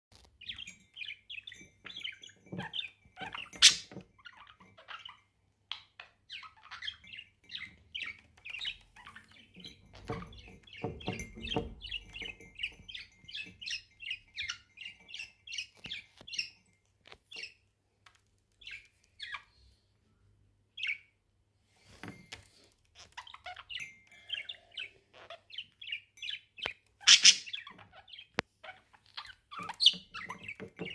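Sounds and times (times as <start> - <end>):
budgerigars chirping: 0.4 - 16.6, 18.6 - 19.6, 20.8 - 21.1, 23.0 - 30.9.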